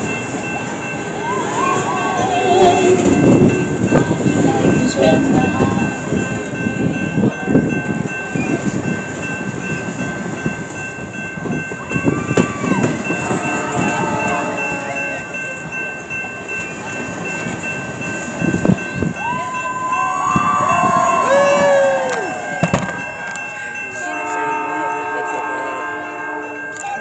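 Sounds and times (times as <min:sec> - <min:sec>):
steady high tones: 0:00.0 - 0:27.0
train cars rumbling past: 0:00.0 - 0:27.0.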